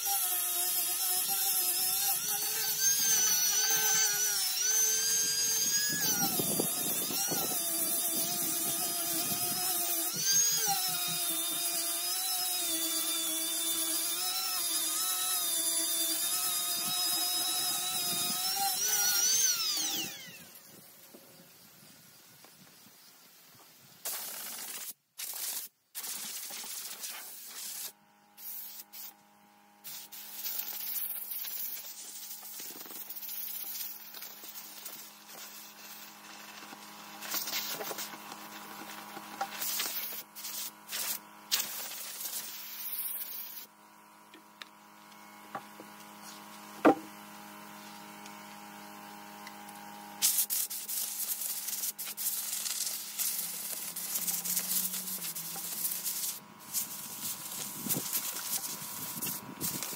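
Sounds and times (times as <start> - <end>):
mechanical hum: 0.0 - 24.8, 25.4 - 59.9.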